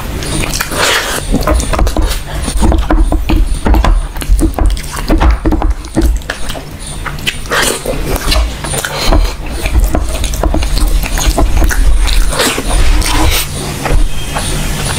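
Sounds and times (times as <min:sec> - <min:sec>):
food squelching: 0:00.0 - 0:14.9
wet chewing and lip smacking: 0:00.0 - 0:14.9.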